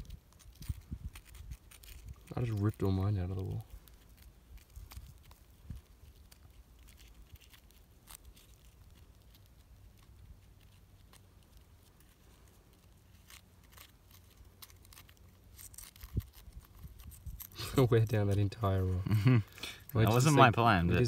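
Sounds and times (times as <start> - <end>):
metal tweezers scratching: 0.1 - 19.0.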